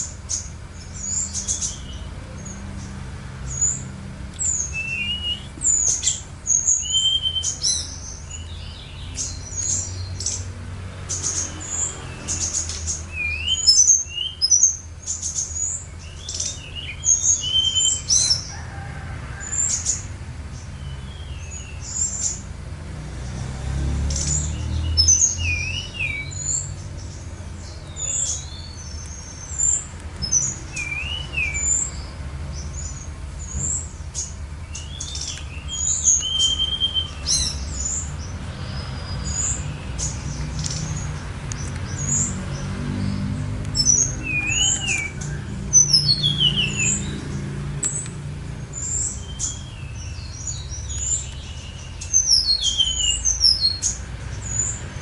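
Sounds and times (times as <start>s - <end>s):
songbirds chirping and whistling: 0.0s - 55.0s.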